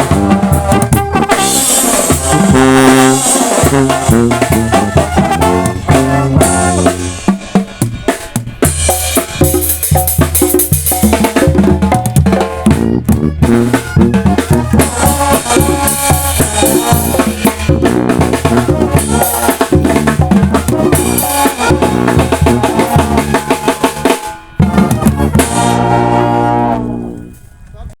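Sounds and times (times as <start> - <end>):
brass band playing: 0.0 - 27.5.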